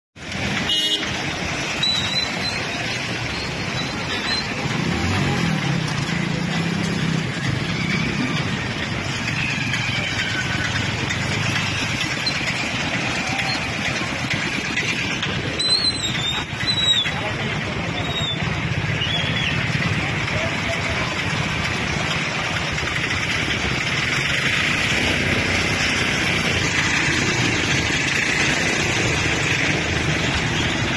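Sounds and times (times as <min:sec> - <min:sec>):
engine hum: 0:00.2 - 0:30.9
traffic on flooded street: 0:00.2 - 0:30.9.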